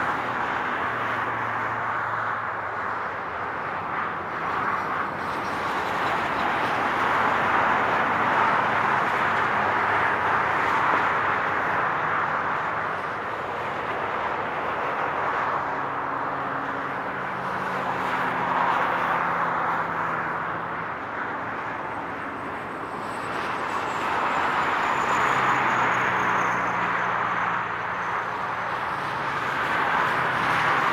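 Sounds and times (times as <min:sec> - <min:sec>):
highway traffic passing: 0:00.0 - 0:30.9.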